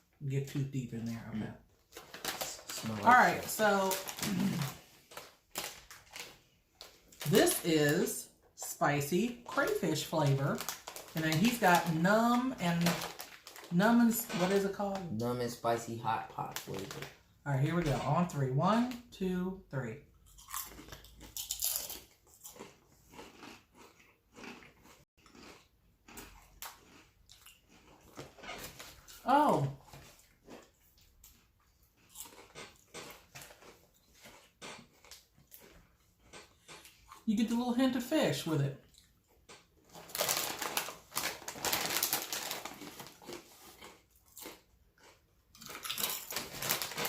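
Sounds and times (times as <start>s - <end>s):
potato chips crunching: 1.8s - 15.3s, 16.3s - 17.2s, 20.2s - 37.3s, 38.8s - 47.0s.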